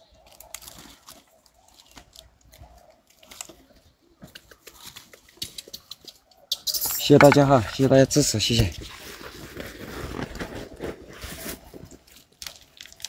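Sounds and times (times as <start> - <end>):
faint crunches and clicks: 0.0 - 7.8, 8.5 - 13.0.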